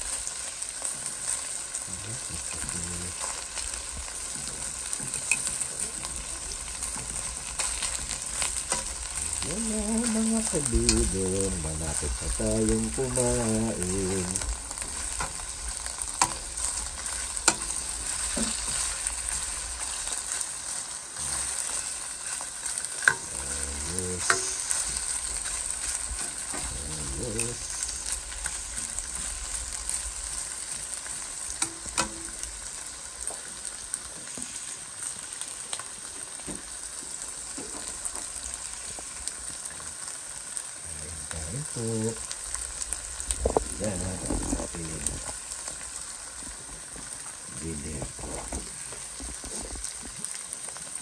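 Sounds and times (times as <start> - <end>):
rice sizzling in a frying pan: 0.0 - 51.0.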